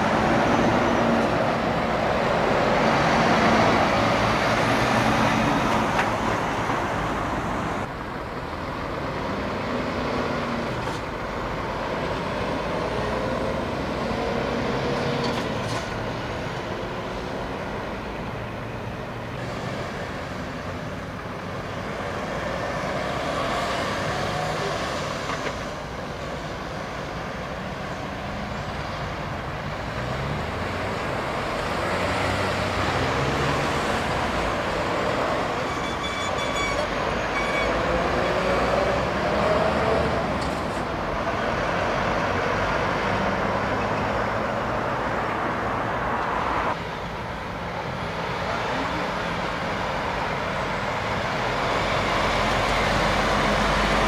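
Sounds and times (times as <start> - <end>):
truck engine pulling away: 0.0 - 27.1, 28.0 - 35.8, 36.8 - 45.2, 47.8 - 54.0
heavy truck traffic: 0.0 - 54.0.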